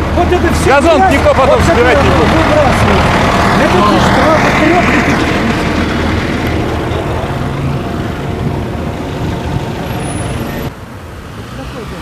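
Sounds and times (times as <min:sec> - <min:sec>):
heavy vehicle engine humming: 0:00.0 - 0:12.0
street noise: 0:00.0 - 0:12.0.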